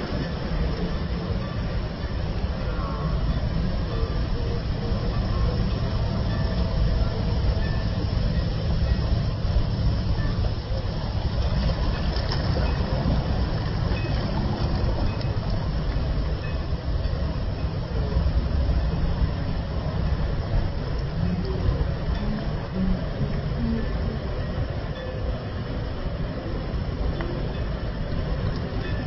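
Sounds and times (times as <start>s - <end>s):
water washing through shallows: 0.0s - 29.0s
waves breaking: 0.0s - 29.0s.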